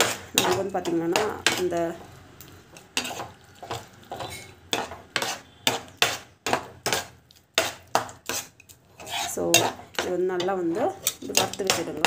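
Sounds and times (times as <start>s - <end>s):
metal spatula scraping a pan: 0.0s - 2.0s, 2.7s - 12.0s.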